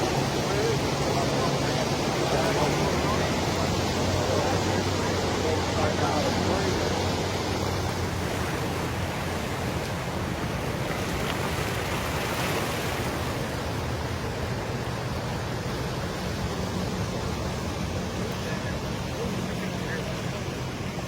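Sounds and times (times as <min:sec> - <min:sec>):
flooded creek rushing: 0:00.0 - 0:21.0.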